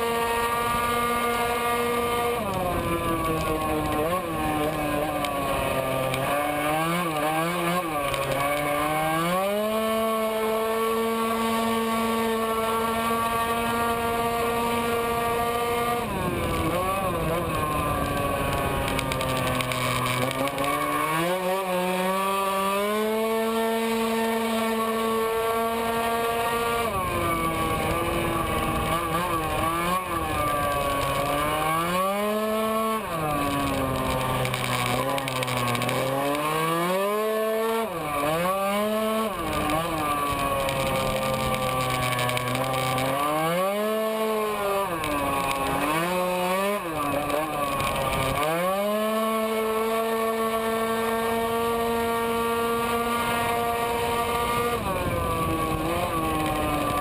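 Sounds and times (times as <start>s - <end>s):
scooter engine at full throttle: 0.0s - 57.0s.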